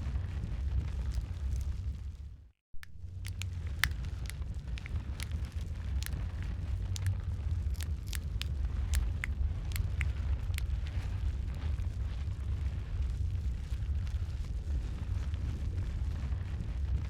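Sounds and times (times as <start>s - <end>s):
wood fire crackling and popping: 0.5s - 2.2s, 2.8s - 17.0s.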